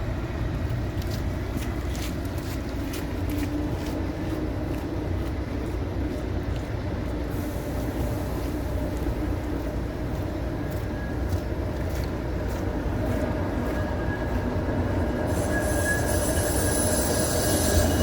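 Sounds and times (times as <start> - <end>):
tram rail rumble: 0.0 - 18.0.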